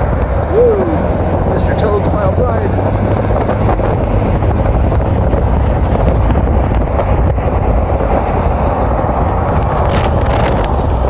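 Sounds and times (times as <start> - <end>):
car road noise from inside cabin: 0.0 - 11.0.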